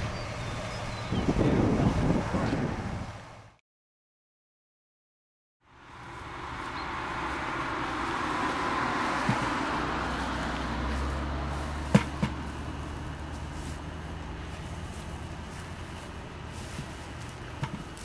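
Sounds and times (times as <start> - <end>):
road traffic rumble: 0.0 - 3.6, 5.6 - 18.0.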